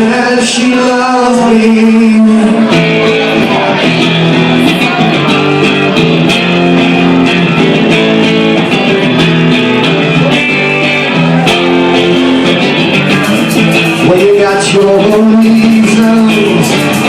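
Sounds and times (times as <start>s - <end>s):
bass line: 0.0s - 17.0s
rock guitars playing chords: 0.0s - 17.0s.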